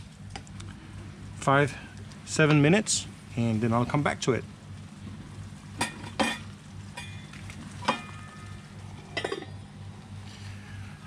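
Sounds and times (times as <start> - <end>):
gas stove hum: 0.0 - 11.0.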